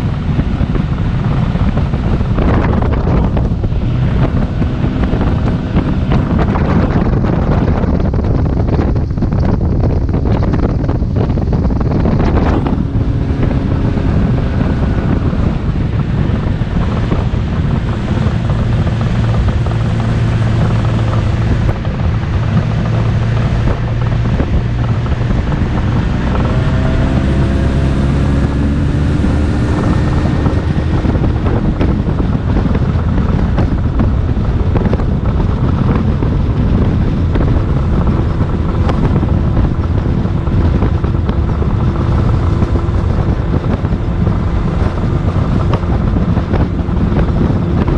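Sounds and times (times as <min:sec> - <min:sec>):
engine running: 0:00.0 - 0:47.9
wind noise on microphone: 0:00.0 - 0:47.9.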